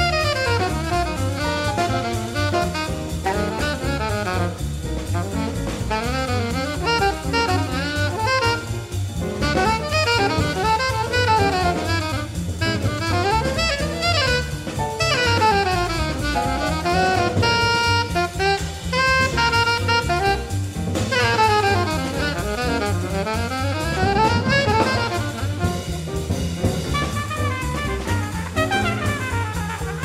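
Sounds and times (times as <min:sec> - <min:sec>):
alto saxophone solo: 0:00.0 - 0:30.0
drum kit: 0:00.0 - 0:30.0
upright bass: 0:00.0 - 0:30.0.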